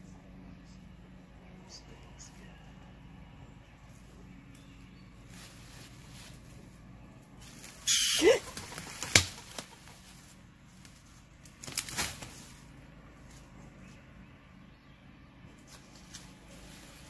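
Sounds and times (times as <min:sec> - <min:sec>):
brush and branches rustling: 0:00.6 - 0:14.3, 0:15.4 - 0:17.0.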